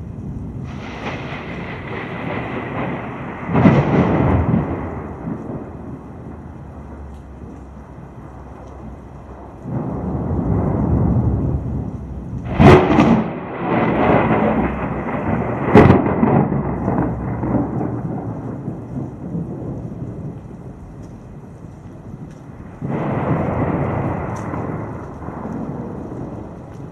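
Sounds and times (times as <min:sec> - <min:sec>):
sharp thunder cracks: 0:00.0 - 0:08.0, 0:08.9 - 0:21.0, 0:22.1 - 0:26.9
thunder rumble: 0:00.0 - 0:26.9.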